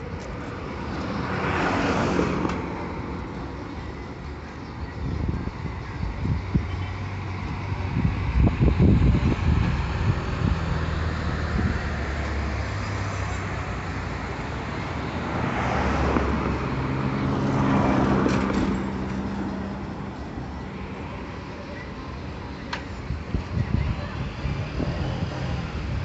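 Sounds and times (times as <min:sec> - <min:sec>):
passing vehicle: 0:00.0 - 0:26.0.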